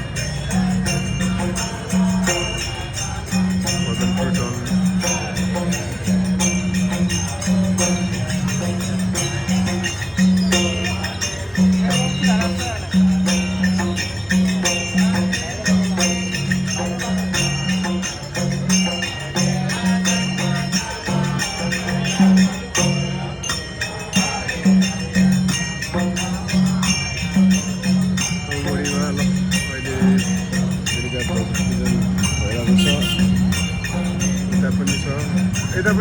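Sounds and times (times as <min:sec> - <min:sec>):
drumming: 0:00.0 - 0:36.0
hand cymbals clashing: 0:00.0 - 0:36.0.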